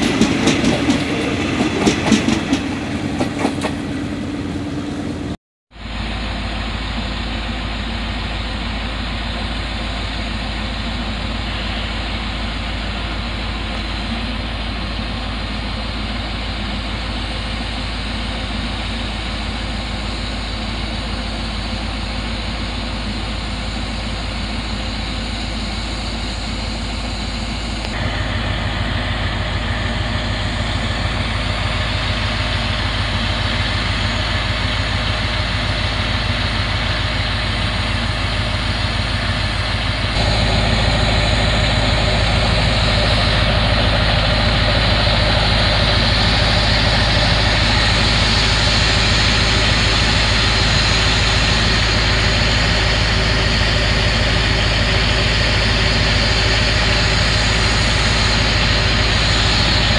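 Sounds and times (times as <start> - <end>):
diesel engine running: 5.8 - 59.9.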